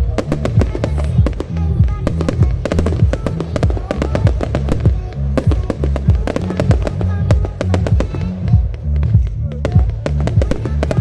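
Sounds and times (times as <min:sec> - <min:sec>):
fireworks bangs and crackles: 0:00.0 - 0:11.0
loud music with heavy bass: 0:00.0 - 0:11.0.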